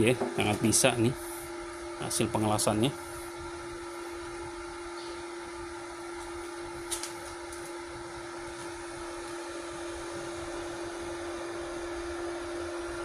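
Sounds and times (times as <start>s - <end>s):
welding machine hum with fan: 0.0s - 13.0s.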